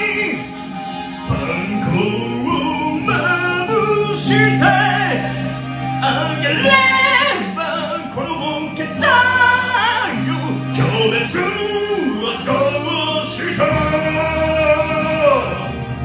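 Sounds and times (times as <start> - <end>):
man singing into microphone: 0.0 - 0.5, 1.2 - 15.8
karaoke backing track: 0.0 - 16.0.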